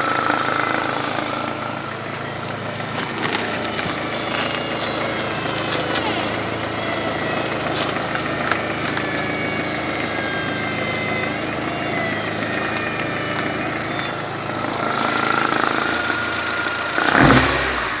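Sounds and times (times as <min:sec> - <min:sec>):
engine running with low hum: 0:00.0 - 0:18.0.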